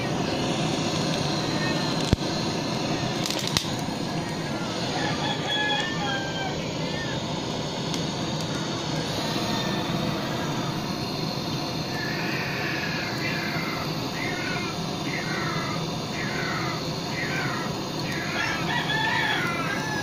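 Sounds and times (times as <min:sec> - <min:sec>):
blowtorch flame rushing: 0:00.0 - 0:20.0.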